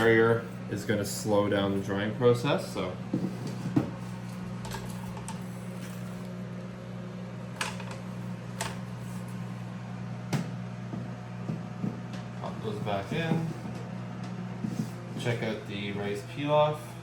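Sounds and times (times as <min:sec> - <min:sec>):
dehydrator fan humming: 0:00.0 - 0:17.0.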